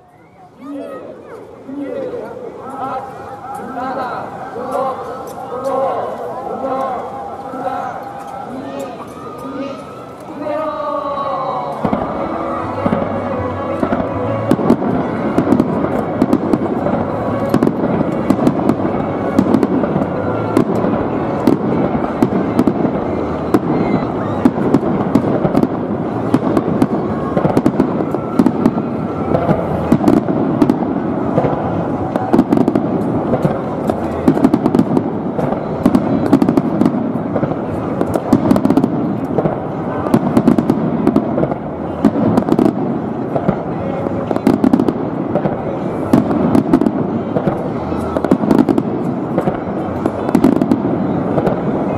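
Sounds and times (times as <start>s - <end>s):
fireworks bangs and crackling: 1.2s - 51.9s.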